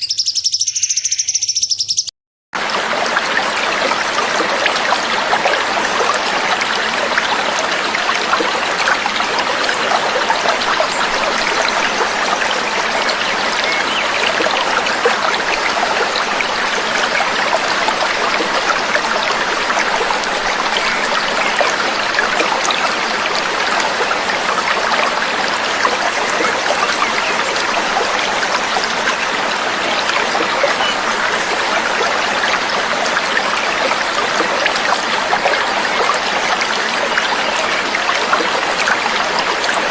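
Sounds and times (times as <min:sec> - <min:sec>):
babbling stream water: 0:02.6 - 0:39.9.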